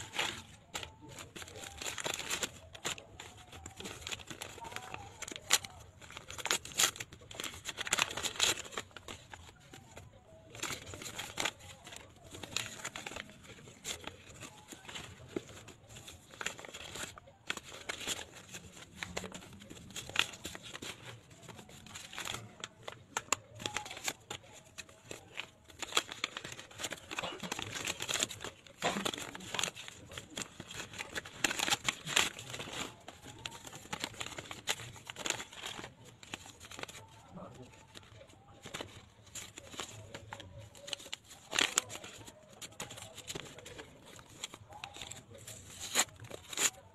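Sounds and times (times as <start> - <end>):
paper banknotes rustling: 0.0 - 46.9
paper tearing: 0.0 - 46.9.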